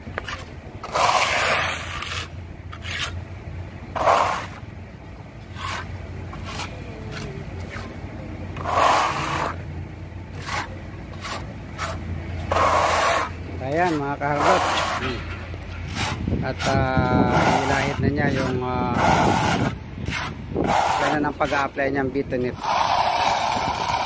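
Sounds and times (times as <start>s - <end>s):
trowel scraping filler on wall: 0.2s - 3.2s, 3.9s - 4.6s, 5.4s - 7.9s, 8.6s - 9.6s, 10.3s - 21.8s, 22.5s - 24.0s.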